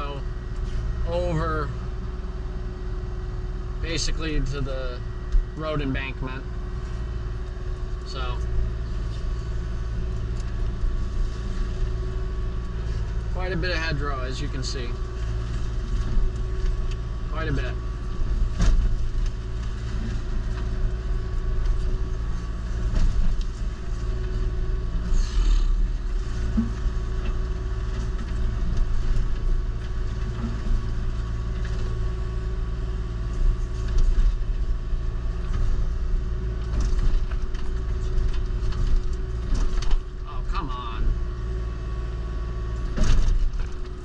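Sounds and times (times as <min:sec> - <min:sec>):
excavator diesel engine under load: 0:00.0 - 0:44.0.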